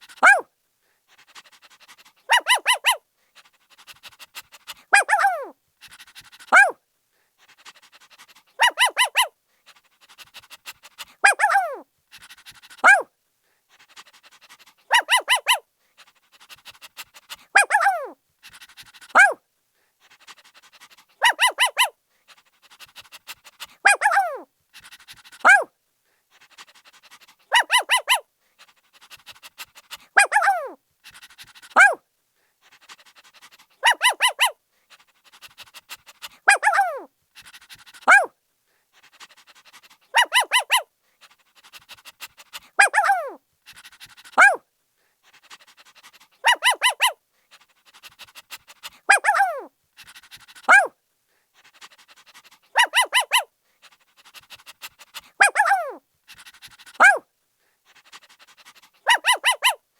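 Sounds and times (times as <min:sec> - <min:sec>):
puppy yapping and yelping: 0:00.0 - 0:00.5, 0:01.1 - 0:06.8, 0:07.6 - 0:13.1, 0:13.8 - 0:19.4, 0:20.0 - 0:25.7, 0:26.3 - 0:32.0, 0:32.6 - 0:38.3, 0:39.0 - 0:44.6, 0:45.2 - 0:51.0, 0:51.7 - 0:57.3, 0:57.9 - 0:59.8.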